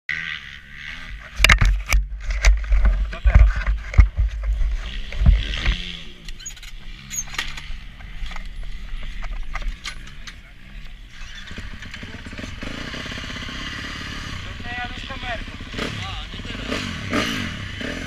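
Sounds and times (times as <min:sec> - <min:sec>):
motocross motorcycle engine running: 0:00.1 - 0:18.0.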